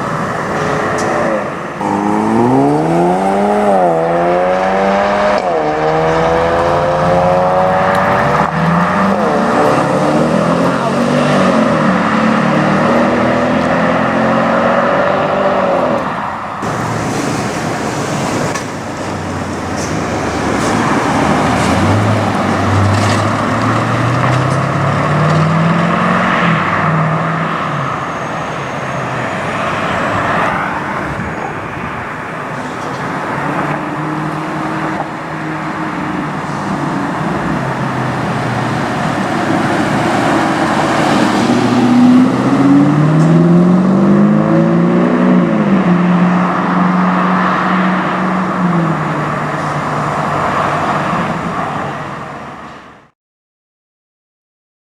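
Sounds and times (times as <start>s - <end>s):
car engines revving: 0.0s - 53.1s.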